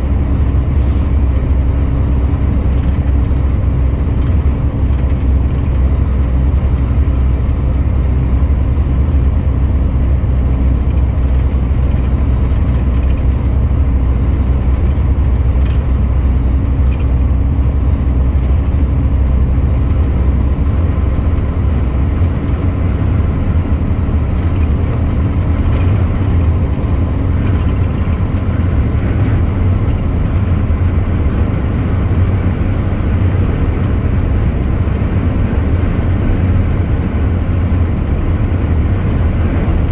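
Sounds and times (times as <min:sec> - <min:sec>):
truck engine humming: 0:00.0 - 0:39.9
tyre and road noise: 0:00.0 - 0:39.9.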